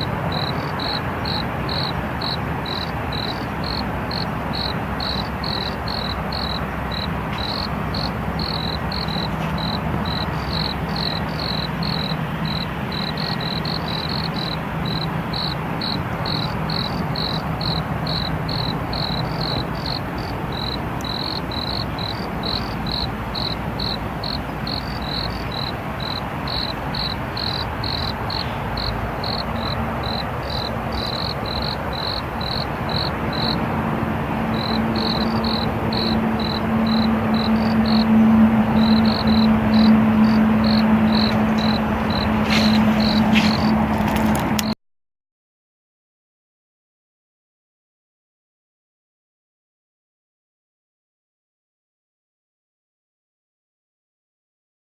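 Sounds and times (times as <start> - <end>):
cricket chirping: 0.0 - 44.8.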